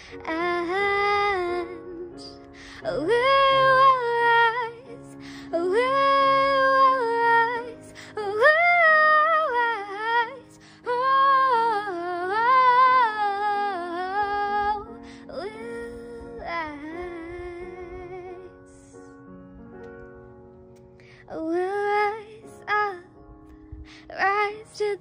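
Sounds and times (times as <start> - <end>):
quiet instrumental backing: 0.0 - 25.0.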